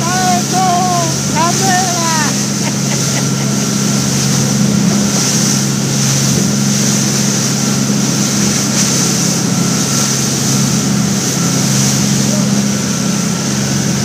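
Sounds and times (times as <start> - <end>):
motorboat engine running: 0.0 - 14.0
water rushing: 0.0 - 14.0.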